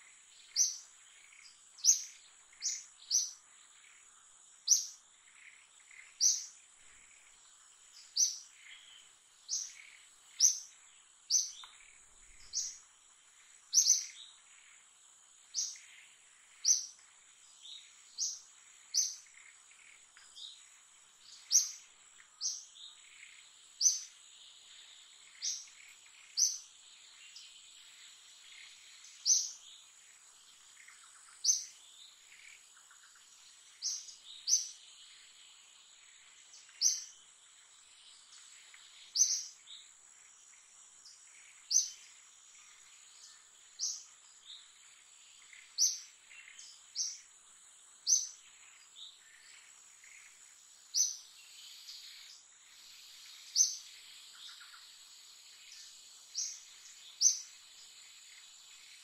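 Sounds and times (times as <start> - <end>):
bird chirping: 0.0 - 59.0
high insect drone: 0.0 - 59.0.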